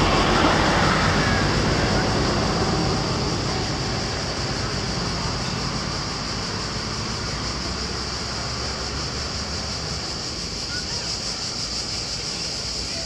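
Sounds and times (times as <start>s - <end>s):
constant high hiss: 0.0s - 13.0s.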